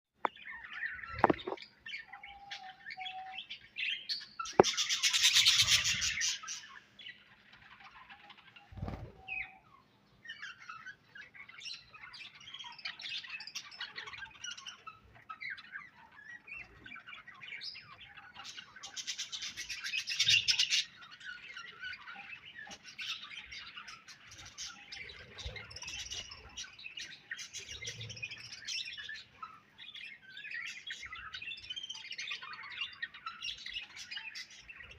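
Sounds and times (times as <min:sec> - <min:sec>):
budgerigars chirping and chattering: 0:00.3 - 0:34.9.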